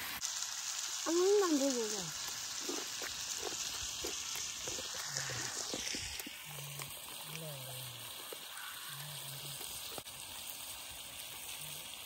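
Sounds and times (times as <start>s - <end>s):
food frying in a pan: 0.0s - 12.0s.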